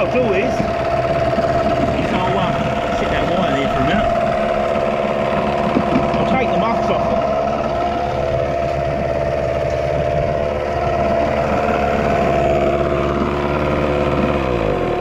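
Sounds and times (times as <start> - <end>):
exhaust churning water: 0.0 - 15.0
outboard motor running: 0.0 - 15.0.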